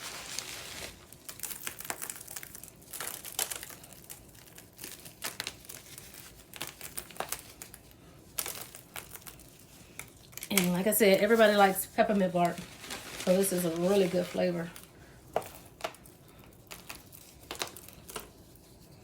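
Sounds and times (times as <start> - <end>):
popcorn crinkling and crackling: 0.0 - 19.0.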